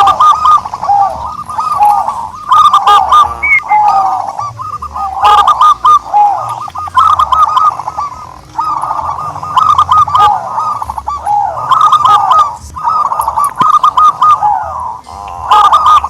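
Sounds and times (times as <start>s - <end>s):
turtledove calling: 0.0s - 16.0s.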